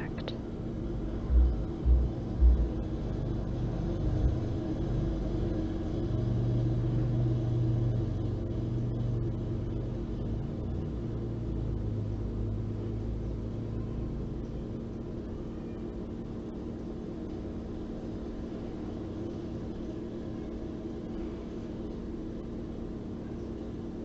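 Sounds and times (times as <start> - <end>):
low steady rumble with hum: 0.0 - 24.0.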